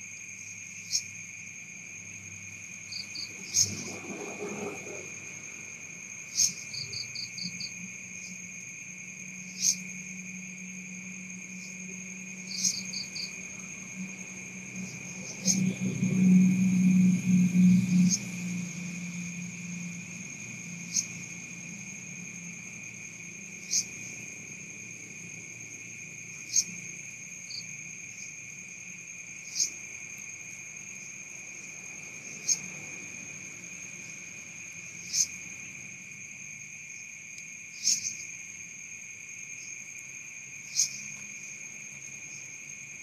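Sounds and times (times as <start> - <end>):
night insects chirring: 0.0 - 43.0.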